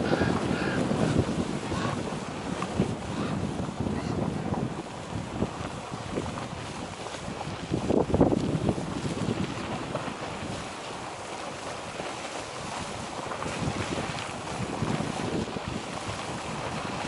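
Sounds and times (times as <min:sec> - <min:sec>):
geyser water splashing and hissing: 0:00.0 - 0:17.0
wind buffeting microphone: 0:00.0 - 0:17.0.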